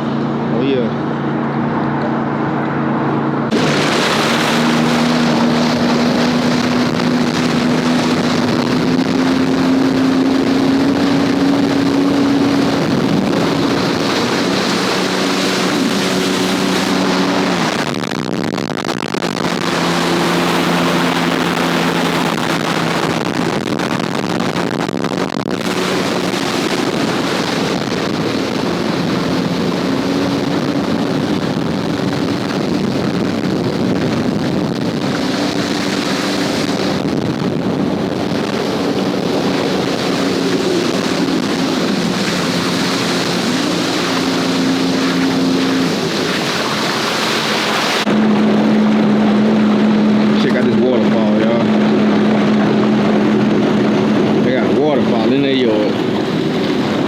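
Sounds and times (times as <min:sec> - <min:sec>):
jet ski engine running: 0:00.0 - 0:57.0
rushing water: 0:00.0 - 0:57.0
rushing wind: 0:00.0 - 0:57.0.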